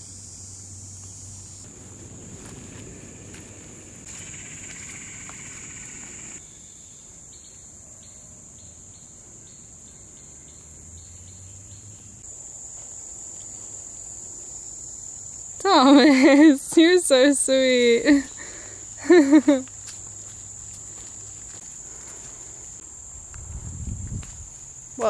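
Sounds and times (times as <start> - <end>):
insects droning: 0.0 - 25.0
short insect chirps: 0.0 - 25.0.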